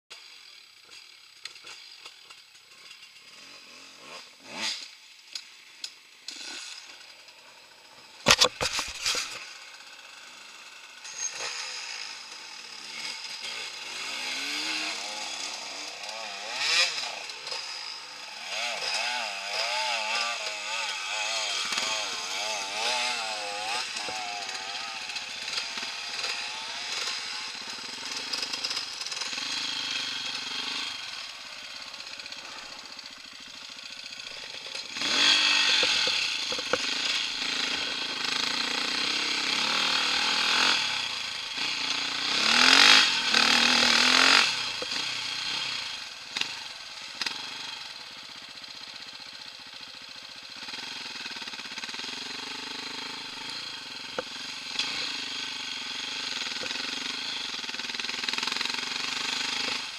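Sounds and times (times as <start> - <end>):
dirt bike engine revving: 0.5 - 5.0, 6.3 - 59.9.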